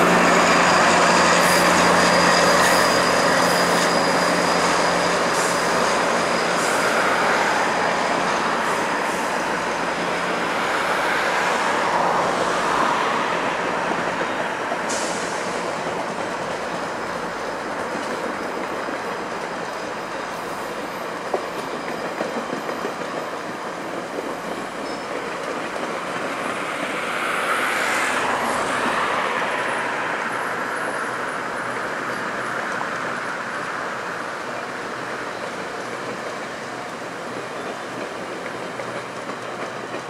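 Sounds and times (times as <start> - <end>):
train wheels rushing on rails: 0.0 - 40.0.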